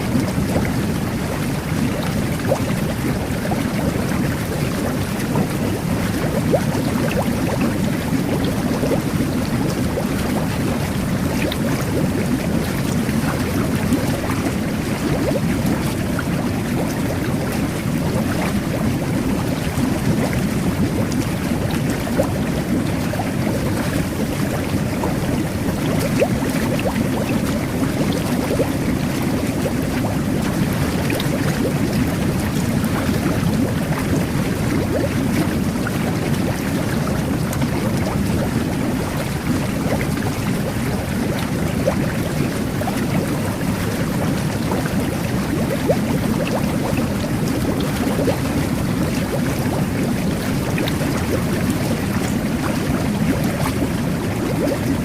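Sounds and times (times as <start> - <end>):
small bubbles bursting: 0.0 - 55.0
water churning and bubbling: 0.0 - 55.0.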